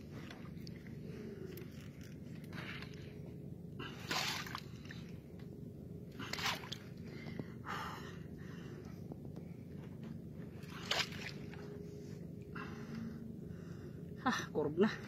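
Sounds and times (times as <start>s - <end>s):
water sloshing against hull: 0.0s - 14.2s
low steady hum: 0.0s - 15.0s.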